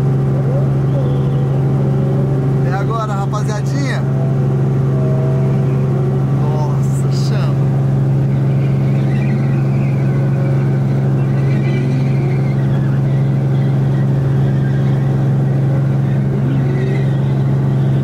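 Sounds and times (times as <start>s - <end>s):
helicopter cabin drone: 0.0s - 18.0s.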